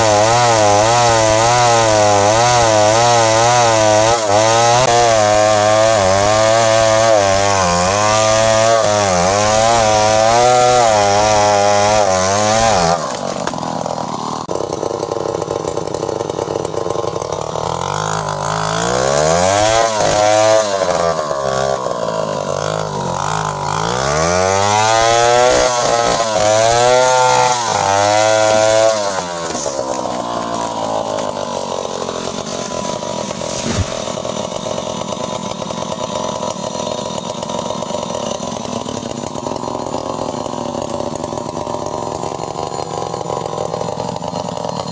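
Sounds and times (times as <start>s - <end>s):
chainsaw revving: 0.0s - 44.9s.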